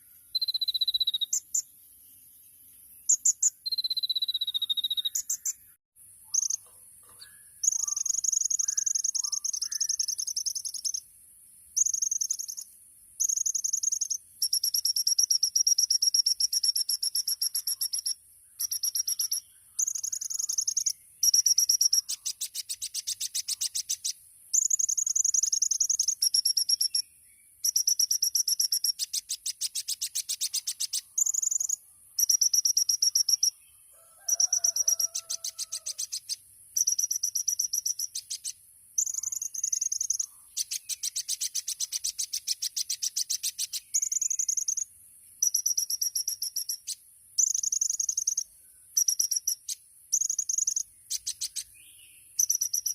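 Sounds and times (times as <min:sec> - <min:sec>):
sunbird high trilling song: 0:00.0 - 0:11.1, 0:11.8 - 0:52.9.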